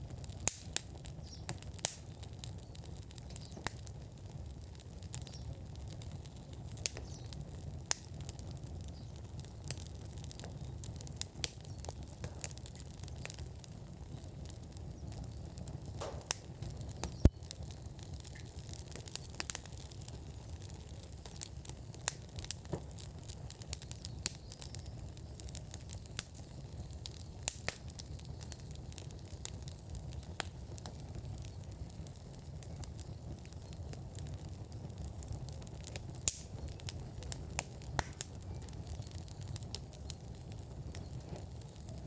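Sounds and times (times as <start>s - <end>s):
low fire rumble: 0.0s - 42.0s
wood fire crackling and popping: 0.0s - 42.0s.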